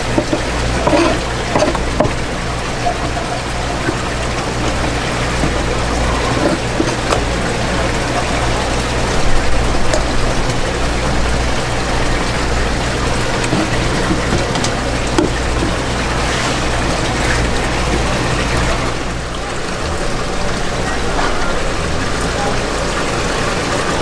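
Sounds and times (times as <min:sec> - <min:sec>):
low pump hum: 0:00.0 - 0:24.0
running water rushing: 0:00.0 - 0:24.0.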